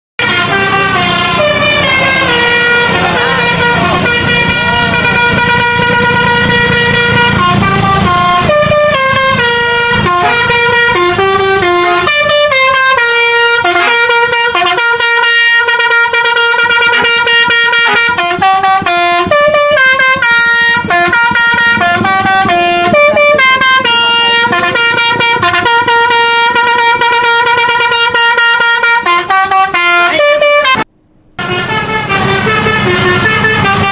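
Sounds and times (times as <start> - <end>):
multi-tone bus air horn tune: 0.2 - 33.9.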